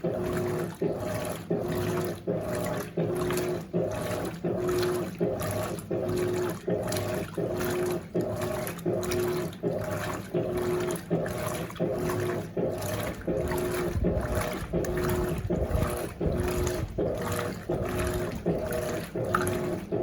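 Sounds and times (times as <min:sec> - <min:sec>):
washing machine motor humming: 0:00.0 - 0:20.0
water and clothes sloshing: 0:00.0 - 0:20.0.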